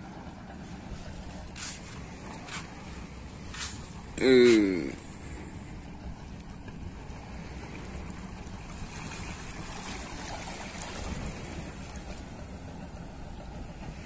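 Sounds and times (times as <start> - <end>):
low wind rumble: 0.0 - 14.0
small waves lapping against rocks: 0.6 - 12.8.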